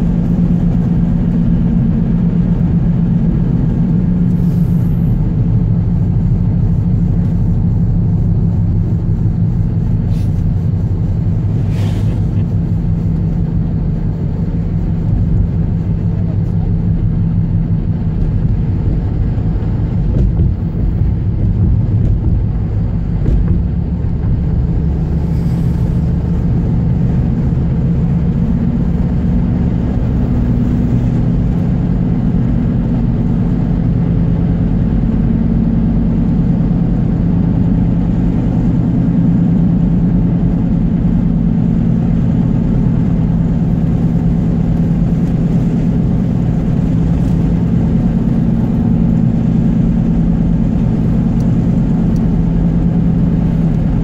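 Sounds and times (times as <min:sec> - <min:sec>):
car road and engine rumble: 0:00.0 - 0:54.0
constant hum: 0:00.0 - 0:54.0.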